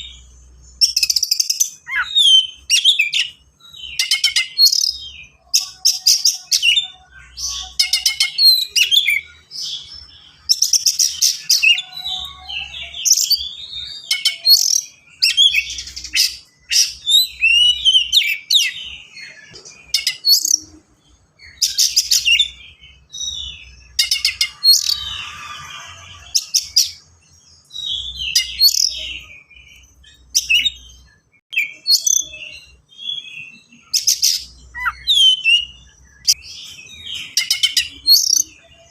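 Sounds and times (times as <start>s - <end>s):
songbird singing rapid phrases: 0.0s - 38.9s.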